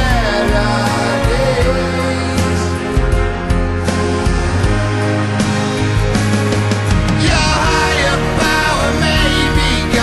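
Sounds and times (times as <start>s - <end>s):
song with singing and beat: 0.0s - 10.0s.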